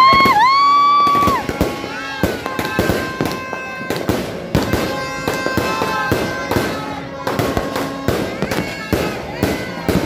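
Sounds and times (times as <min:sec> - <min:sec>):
fireworks bangs: 0:00.0 - 0:10.0
fireworks whistles sliding: 0:00.0 - 0:10.0.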